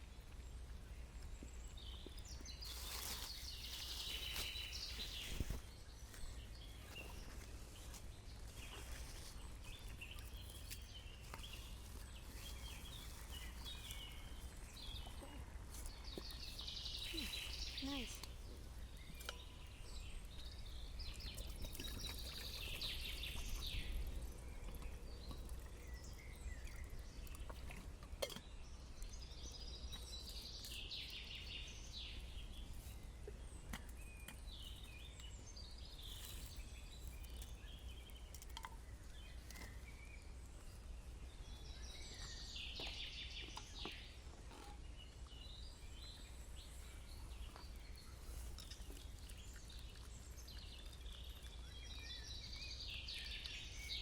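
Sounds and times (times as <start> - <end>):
bird chirping: 9.6 - 27.8, 28.4 - 54.0.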